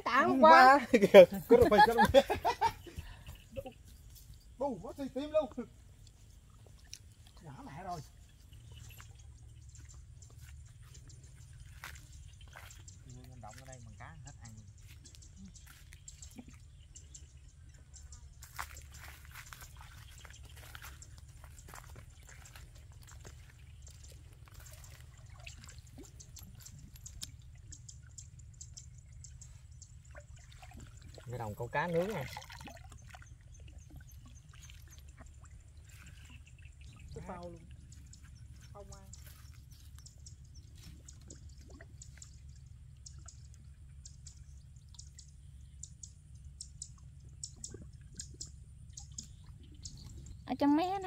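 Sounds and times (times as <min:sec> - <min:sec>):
low steady rumble: 0:00.0 - 0:51.0
pond water splashing and dripping: 0:00.0 - 0:51.0.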